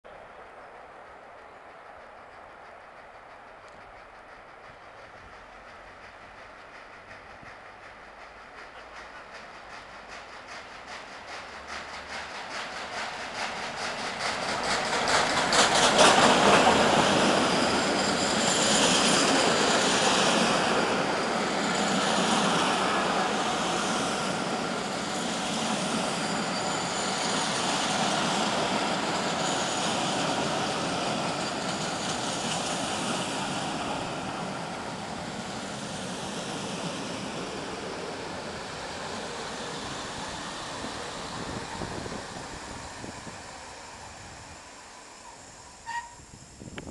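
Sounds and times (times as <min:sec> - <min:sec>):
steam train passing: 0:00.1 - 0:46.9.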